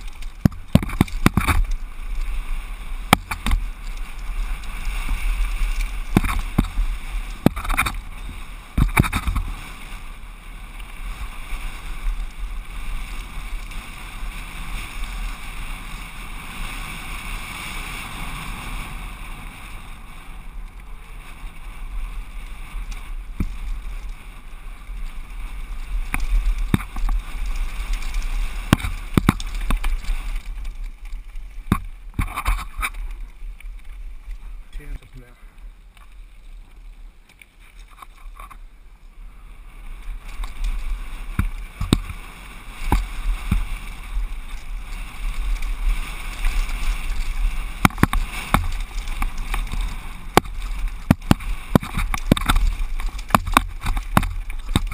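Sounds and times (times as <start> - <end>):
bike rattling over bumps: 0.0 - 54.9
bike tyre rumble on gravel: 0.0 - 54.9
wind rush on microphone: 0.0 - 54.9.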